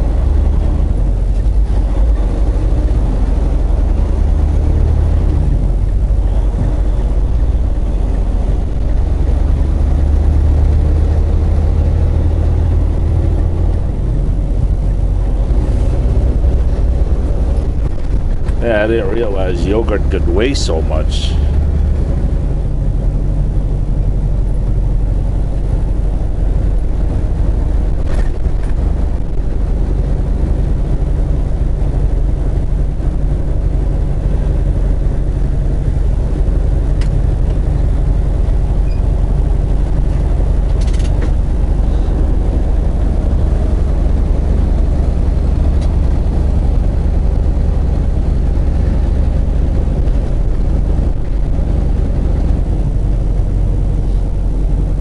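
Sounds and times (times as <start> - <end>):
truck diesel engine drone: 0.0 - 55.0.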